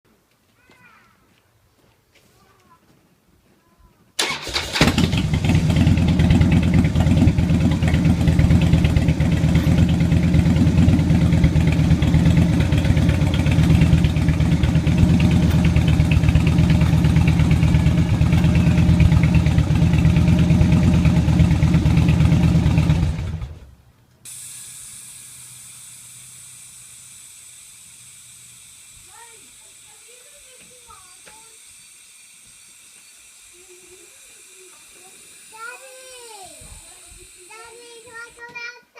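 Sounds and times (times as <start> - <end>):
motorcycle engine starting and idling: 4.2 - 38.5.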